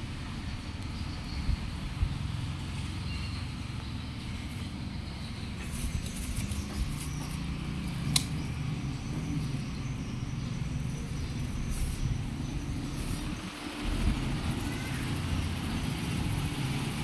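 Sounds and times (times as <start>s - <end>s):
fan running low rumble: 0.0s - 17.0s.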